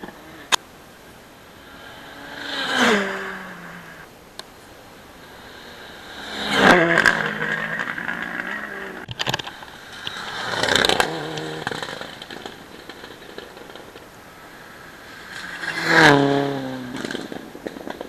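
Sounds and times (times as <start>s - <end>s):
sharp crackling pops: 0.0s - 18.0s
rally cars racing past: 1.6s - 4.1s, 5.1s - 18.0s.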